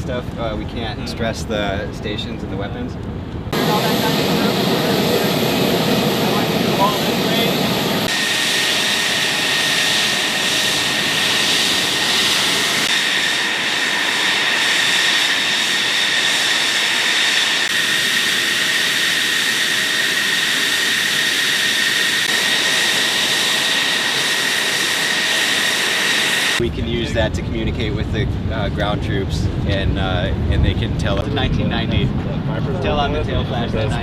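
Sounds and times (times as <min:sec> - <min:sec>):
jet engine running with high whine: 0:00.0 - 0:34.0.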